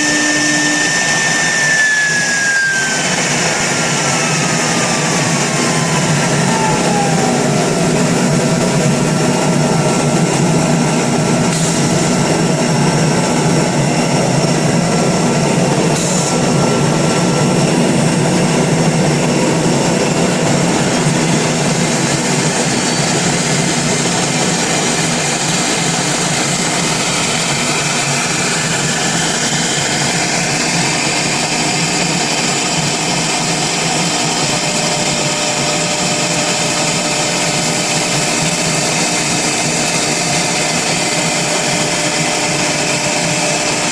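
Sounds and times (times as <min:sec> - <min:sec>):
router spindle whining and cutting: 0:00.0 - 0:43.9.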